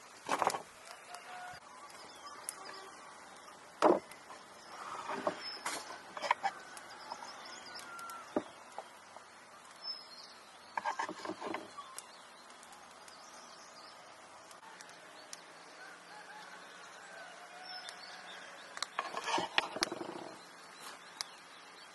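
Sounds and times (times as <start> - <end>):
birds chirping faintly: 0.0 - 21.9.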